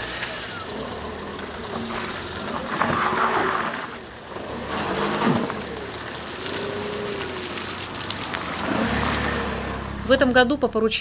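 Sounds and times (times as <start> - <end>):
car engine low hum: 0.0 - 11.0
tyres crunching on gravel: 0.0 - 11.0.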